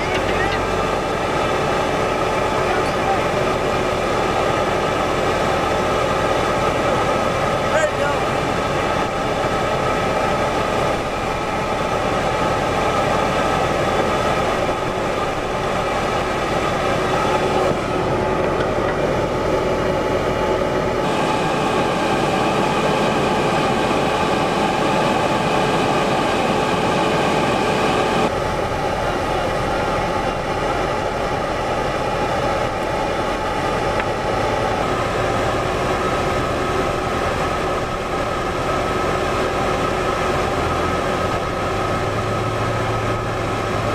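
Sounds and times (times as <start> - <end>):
diesel engine drone: 0.0 - 43.9.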